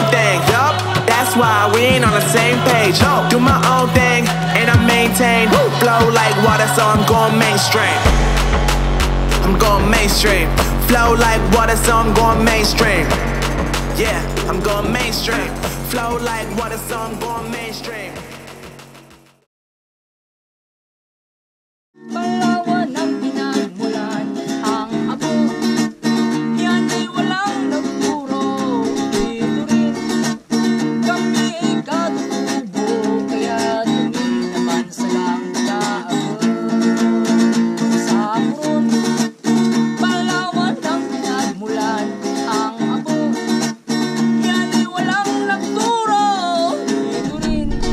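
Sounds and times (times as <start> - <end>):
acoustic guitar strumming: 0.0 - 19.3, 22.1 - 47.7.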